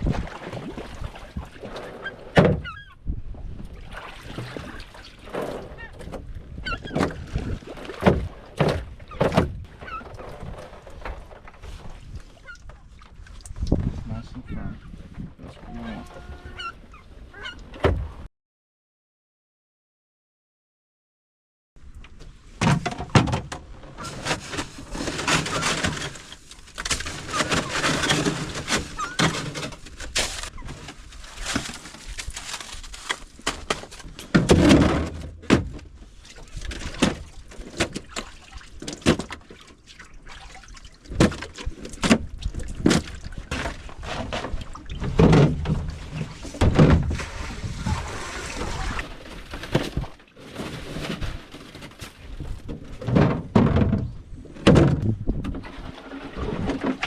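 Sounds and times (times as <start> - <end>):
water splashing and sloshing: 0.0 - 18.3, 21.8 - 57.0.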